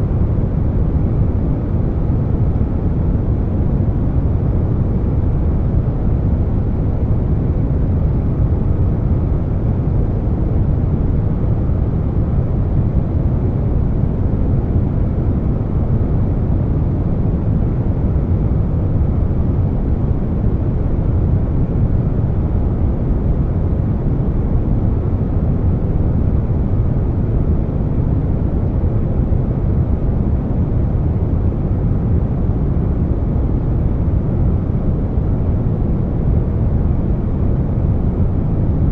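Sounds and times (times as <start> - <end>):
air conditioner low rumble: 0.0 - 38.9.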